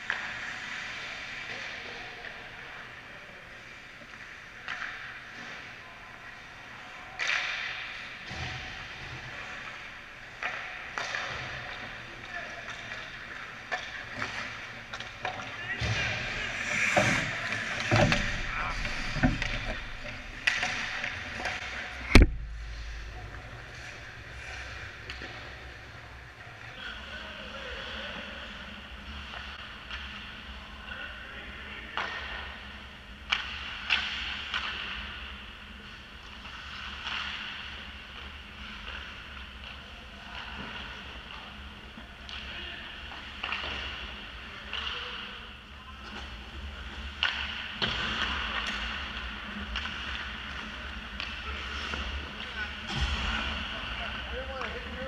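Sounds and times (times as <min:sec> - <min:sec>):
hockey sticks and puck clacking: 0:00.0 - 0:03.0, 0:03.6 - 0:22.9, 0:31.9 - 0:45.3, 0:46.0 - 0:55.0.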